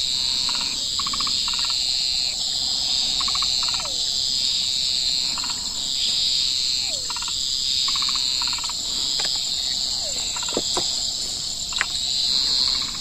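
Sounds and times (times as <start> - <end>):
insect chorus chirring: 0.0 - 13.0
short pulsed insect calls: 0.0 - 13.0.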